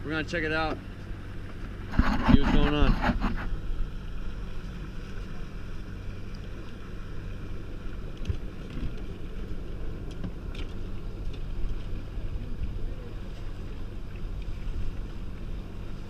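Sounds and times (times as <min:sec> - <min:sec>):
boat motor running: 0:00.0 - 0:16.0
wind rumbling on microphone: 0:01.3 - 0:16.0.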